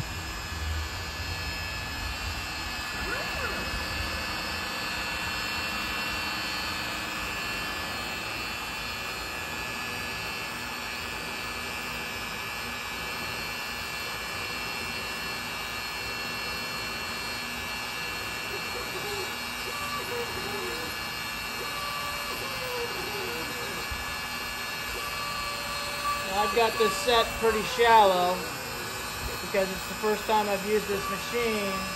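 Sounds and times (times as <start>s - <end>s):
router spindle high-pitched whine: 0.0s - 31.9s.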